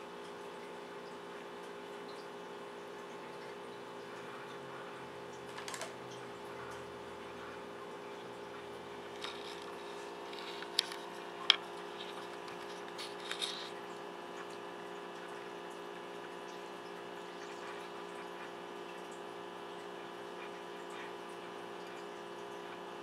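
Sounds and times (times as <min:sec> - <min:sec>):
appliance hum: 0:00.0 - 0:23.0.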